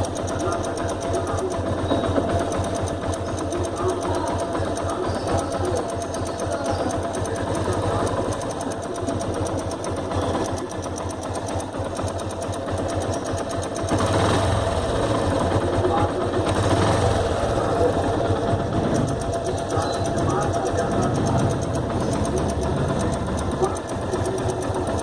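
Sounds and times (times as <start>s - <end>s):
metallic ticking: 0.0s - 25.0s
motorcycle engine running: 0.0s - 25.0s.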